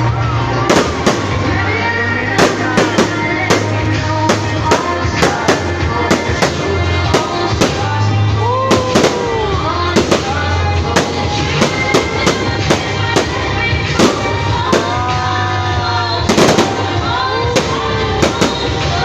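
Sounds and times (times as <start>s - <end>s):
loud music with bass line: 0.0s - 19.0s
fireworks banging: 0.6s - 19.0s.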